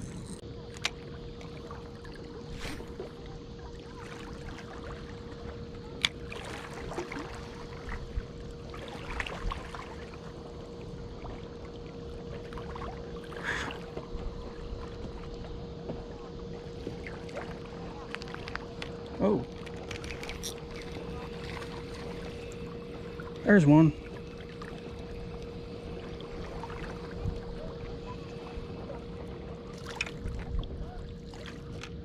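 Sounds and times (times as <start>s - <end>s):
faint hum: 0.0s - 32.0s.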